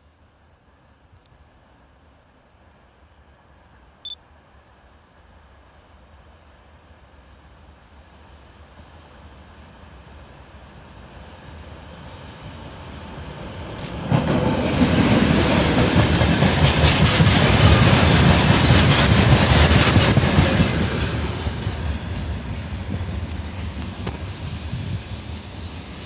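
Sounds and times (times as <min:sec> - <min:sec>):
diesel locomotive passing: 0:04.4 - 0:26.0.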